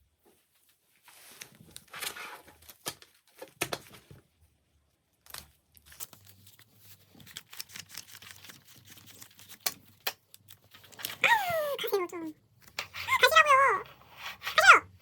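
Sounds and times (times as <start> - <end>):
crinkling and rustling: 0.1 - 14.6.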